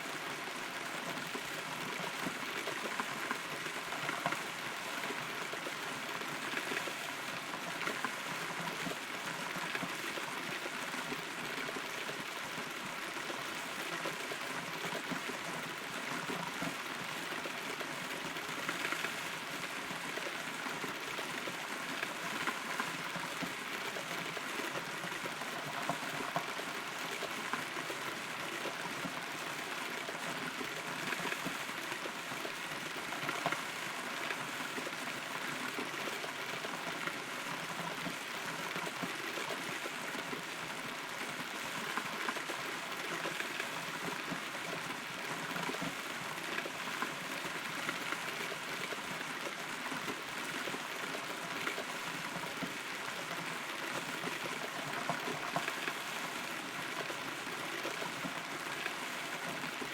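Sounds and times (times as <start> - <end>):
rain patter: 0.0 - 59.9
raindrops striking close by: 0.1 - 59.9.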